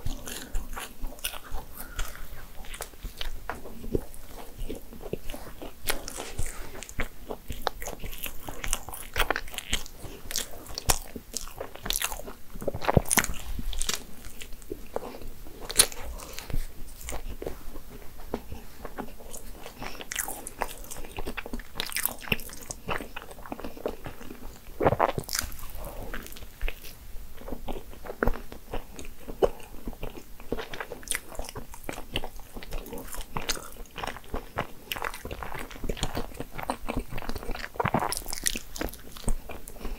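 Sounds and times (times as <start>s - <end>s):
crunching crisp pastry: 0.0s - 39.9s
quiet chewing: 0.0s - 39.9s.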